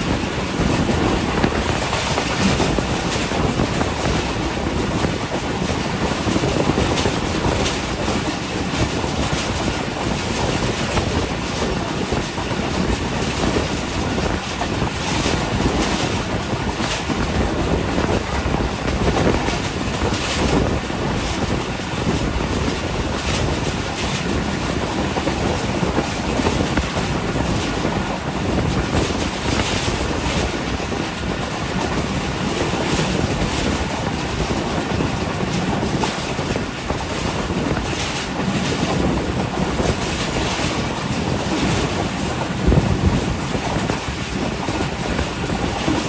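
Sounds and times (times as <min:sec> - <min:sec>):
wheels rushing on rails: 0:00.0 - 0:46.0.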